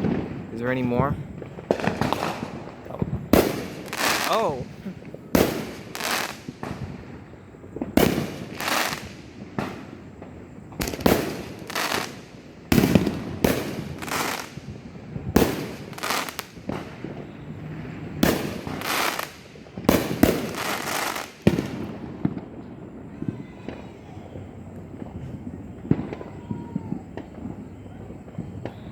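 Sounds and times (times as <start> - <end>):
fireworks bangs with crackling: 0.0 - 28.9.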